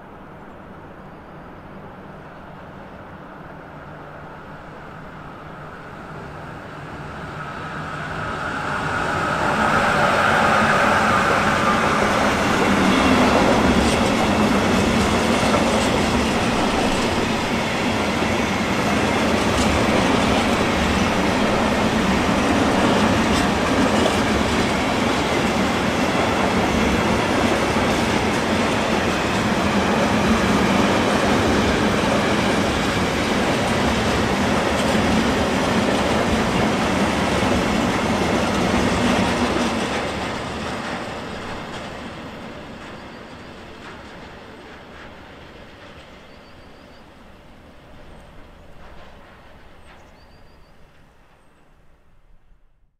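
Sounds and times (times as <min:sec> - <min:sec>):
train wheels clattering on track: 0:07.1 - 0:52.0.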